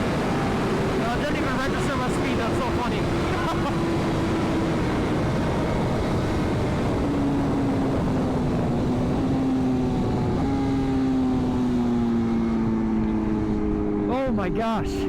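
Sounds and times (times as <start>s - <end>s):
heavy wind rush: 0.0s - 15.0s.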